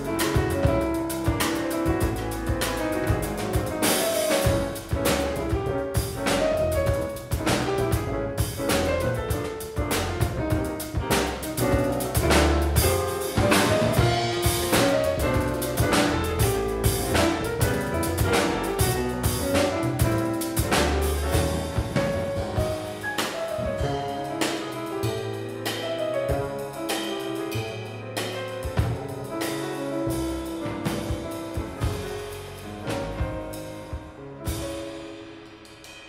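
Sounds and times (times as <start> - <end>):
upright double bass: 0.0 - 35.0
acoustic piano: 0.0 - 36.0
drum kit with cymbals: 0.0 - 36.0.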